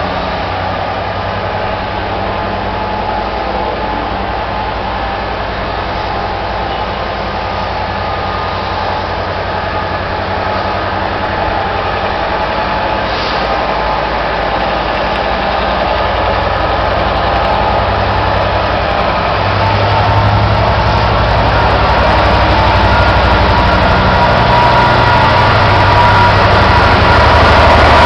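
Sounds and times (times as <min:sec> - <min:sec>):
diesel locomotive engine working: 0:00.0 - 0:28.0.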